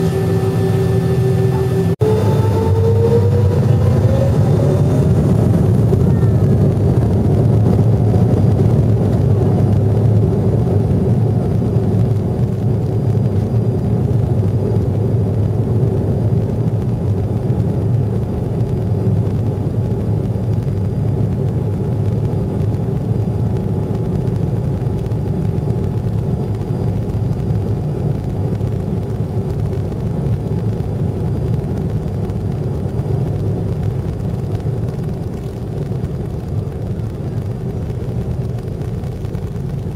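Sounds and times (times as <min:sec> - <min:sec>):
rumble of jet engines and wheels: 0:00.0 - 0:39.9.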